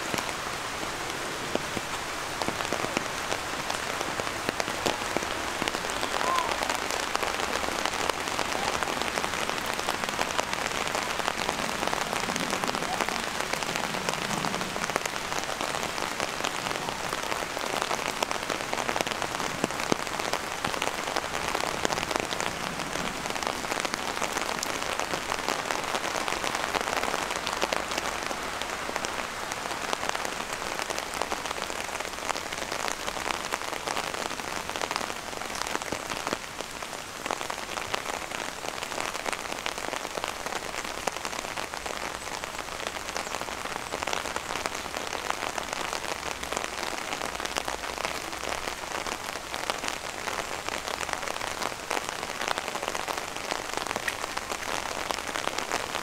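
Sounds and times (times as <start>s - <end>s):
steady rain with sharp drop hits: 0.0s - 56.0s.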